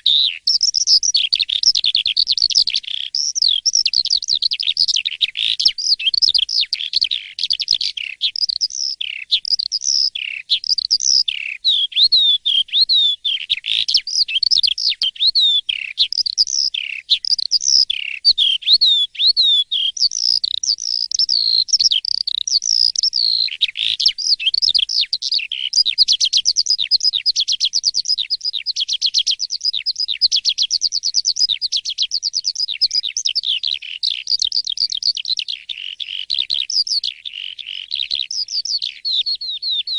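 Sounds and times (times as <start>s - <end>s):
starling singing whistles and trills: 0.0s - 39.9s.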